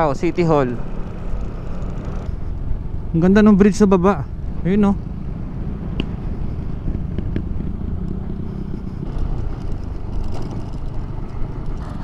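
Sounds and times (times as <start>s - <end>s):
motorcycle engine running: 0.0s - 3.0s, 4.3s - 12.0s
wind rumble on microphone: 1.3s - 12.0s.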